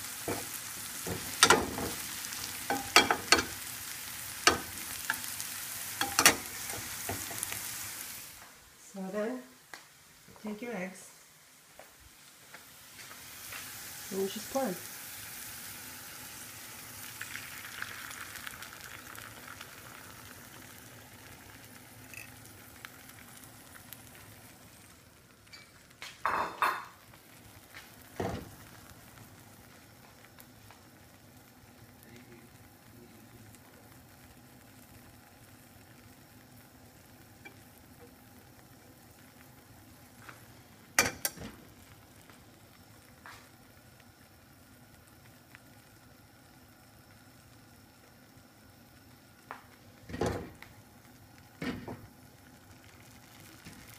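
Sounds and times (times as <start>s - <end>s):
eggs sizzling in a frying pan: 0.0s - 53.9s.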